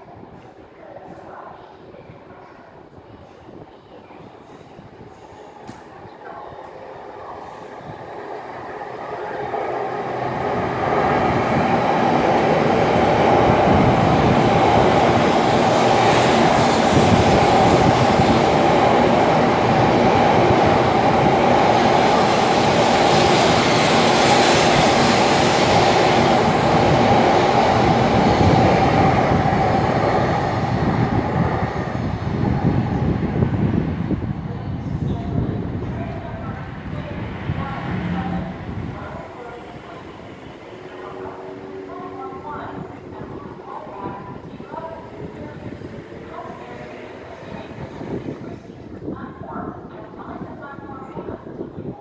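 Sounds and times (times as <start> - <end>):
train passing with rushing noise: 2.8 - 52.0.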